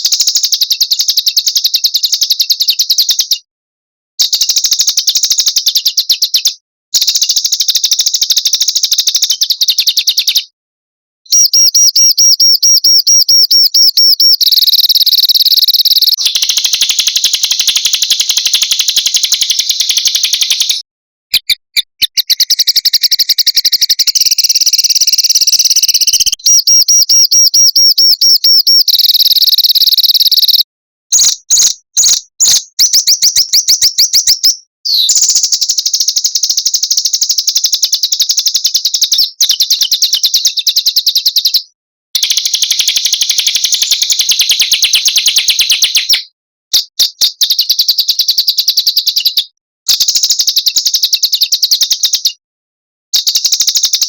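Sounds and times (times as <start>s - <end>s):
songbirds singing trills: 0.0s - 3.5s, 4.2s - 10.5s, 11.3s - 17.7s, 18.4s - 46.3s.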